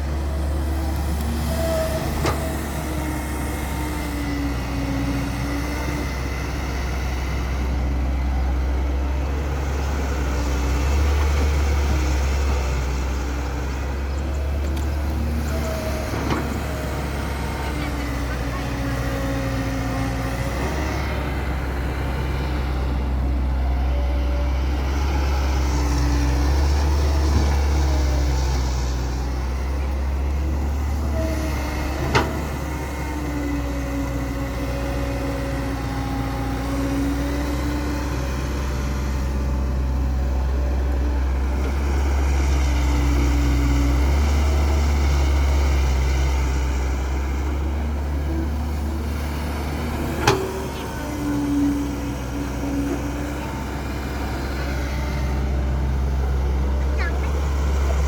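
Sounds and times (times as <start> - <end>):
excavator diesel engine under load: 0.0 - 58.0.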